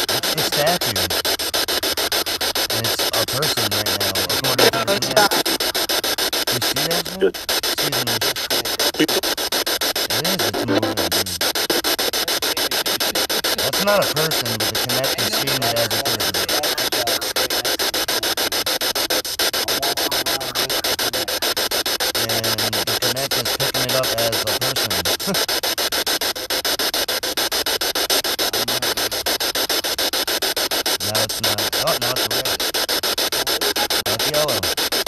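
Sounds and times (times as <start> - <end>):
chopped radio static hiss: 0.0 - 35.0
low voice-like snatches: 0.0 - 35.0.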